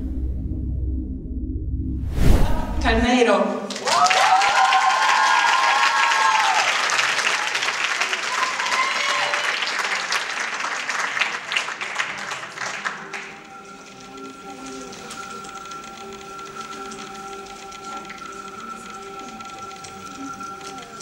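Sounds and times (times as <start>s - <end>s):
audience applauding: 3.7s - 21.0s.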